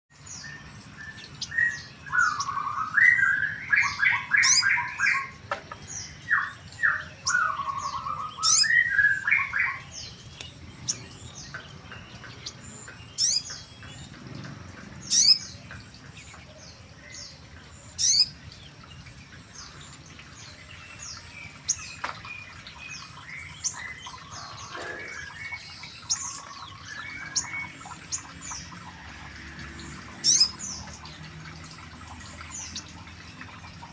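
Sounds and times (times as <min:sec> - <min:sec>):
small birds singing: 0:00.1 - 0:33.9.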